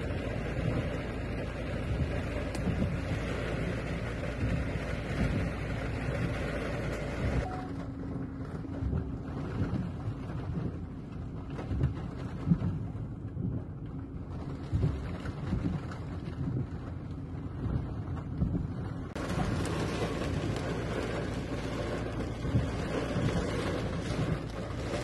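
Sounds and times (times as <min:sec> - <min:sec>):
low engine hum: 0:00.0 - 0:25.0
water sloshing against car: 0:00.0 - 0:25.0.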